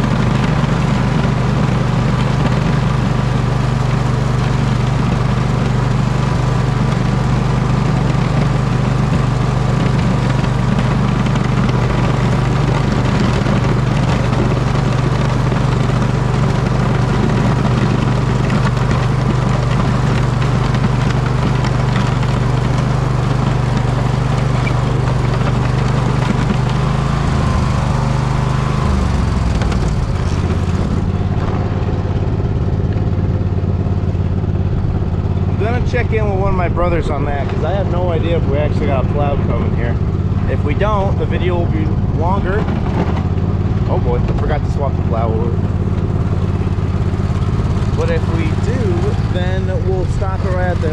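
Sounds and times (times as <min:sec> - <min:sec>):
lawn tractor engine under load: 0:00.0 - 0:50.9.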